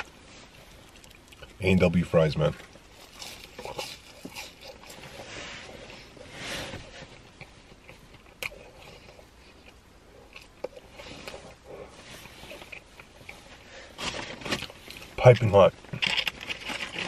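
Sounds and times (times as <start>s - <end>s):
person biting and chewing fries: 0.0s - 1.6s, 2.6s - 6.2s, 7.1s - 15.2s, 15.9s - 17.0s.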